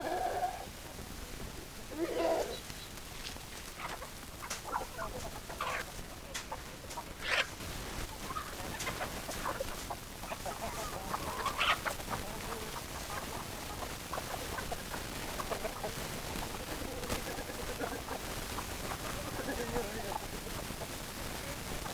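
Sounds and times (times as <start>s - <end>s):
hens clucking: 0.0s - 21.9s.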